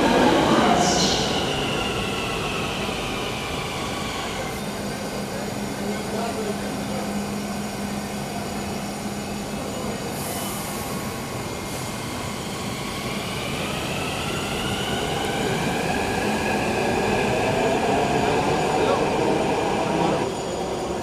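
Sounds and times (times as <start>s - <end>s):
rising train motor whine: 0.0s - 21.0s
train rumbling: 0.0s - 21.0s.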